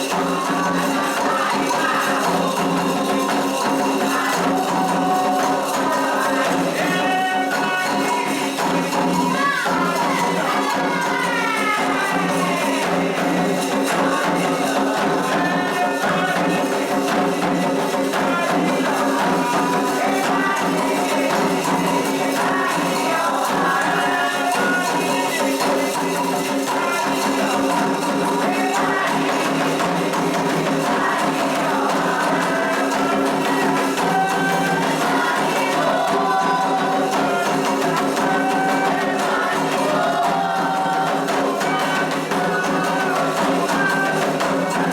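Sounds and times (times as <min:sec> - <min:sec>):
hand percussion: 0:00.0 - 0:44.9
voices singing: 0:00.0 - 0:44.9.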